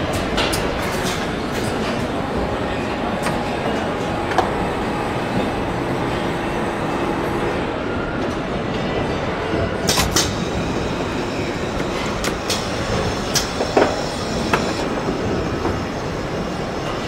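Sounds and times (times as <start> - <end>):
rumbling workshop noise: 0.0 - 17.0.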